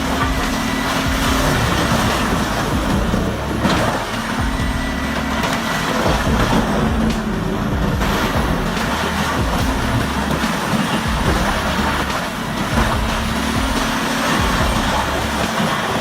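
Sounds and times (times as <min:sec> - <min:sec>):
wood chipper running: 0:00.0 - 0:16.0.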